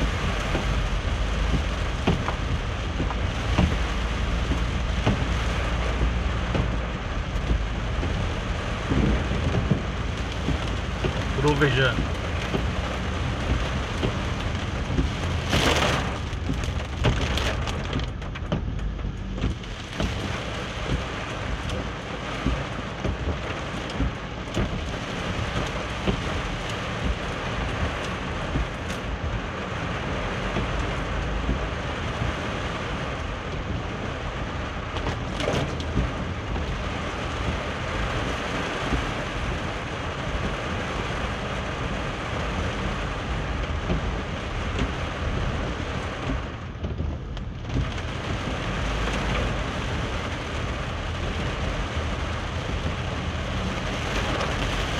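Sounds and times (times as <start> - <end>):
deep car rumble: 0.0 - 54.9
heavy rain drumming on car roof: 0.0 - 54.9.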